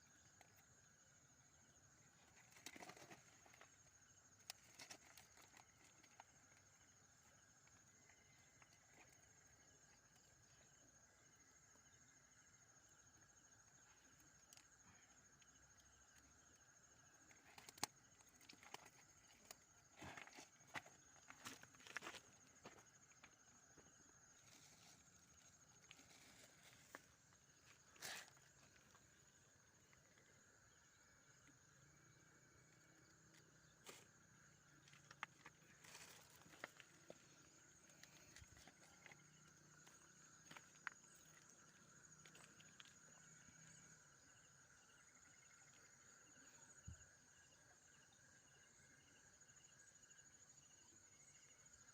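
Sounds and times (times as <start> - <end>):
night insects chirping: 0.0 - 51.9.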